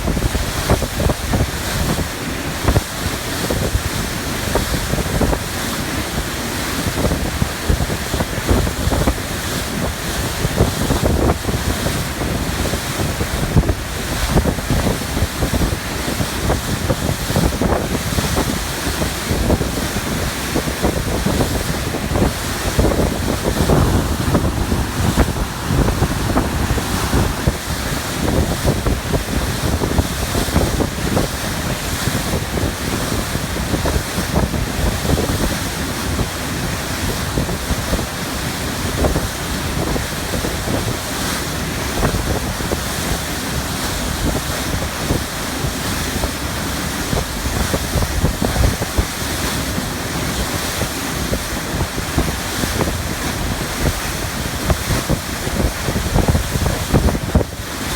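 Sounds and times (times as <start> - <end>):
choppy sea water rushing: 0.0 - 57.9
wind buffeting microphone: 0.0 - 57.9.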